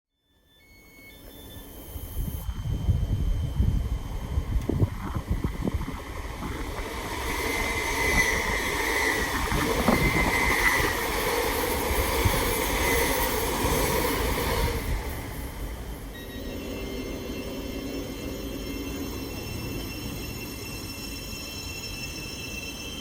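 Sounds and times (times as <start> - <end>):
steady high whine: 0.6 - 23.0
train wheels rumbling on rails: 1.2 - 23.0.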